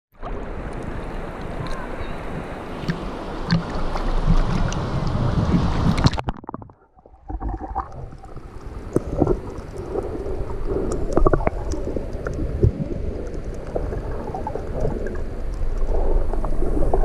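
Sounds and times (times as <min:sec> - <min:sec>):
wind on microphone: 0:00.2 - 0:06.8, 0:07.7 - 0:17.0
muffled underwater rumble: 0:00.2 - 0:17.0
water splashing: 0:00.2 - 0:17.0
gurgling bubbles: 0:00.6 - 0:17.0
underwater clicks: 0:00.7 - 0:17.0.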